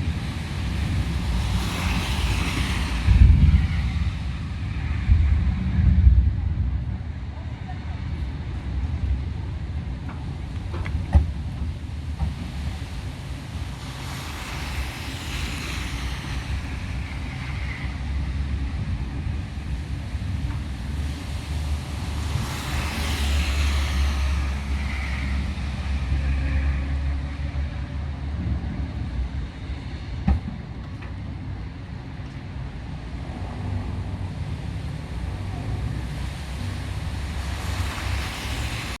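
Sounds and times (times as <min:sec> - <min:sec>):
cars passing on wet road: 0:00.0 - 0:39.0
wind rumbling on microphone: 0:00.0 - 0:39.0.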